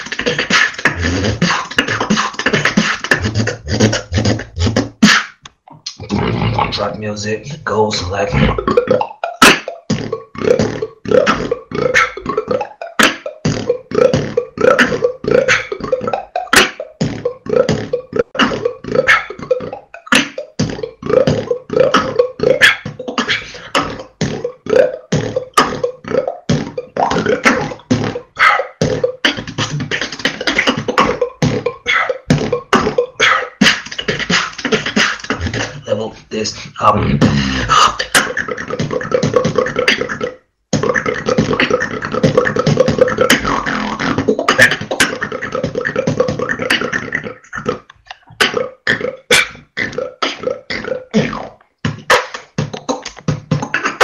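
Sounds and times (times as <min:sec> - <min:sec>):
beatboxing: 0:00.0 - 0:54.0.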